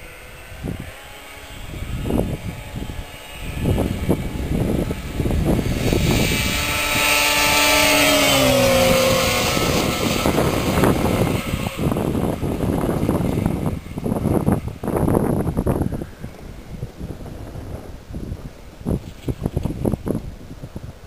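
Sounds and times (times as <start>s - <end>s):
snowmobile engine passing by: 0.0s - 20.9s.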